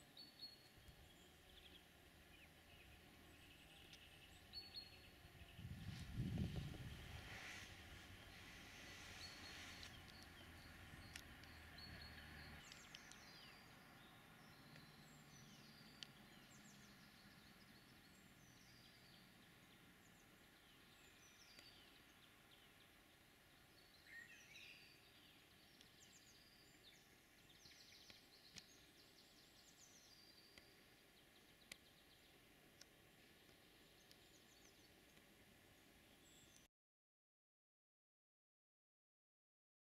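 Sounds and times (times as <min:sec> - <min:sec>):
low steady hum: 0:00.0 - 0:36.6
songbirds chirping: 0:00.0 - 0:36.7.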